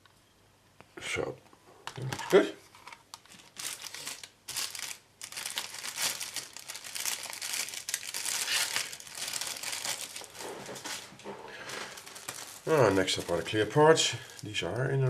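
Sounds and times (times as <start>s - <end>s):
plastic bag crinkling: 2.0s - 15.0s.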